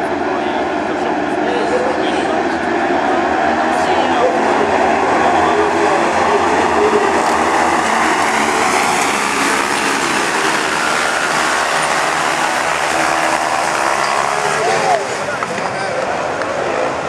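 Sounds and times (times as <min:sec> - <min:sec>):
many racing engines: 0:00.0 - 0:17.0.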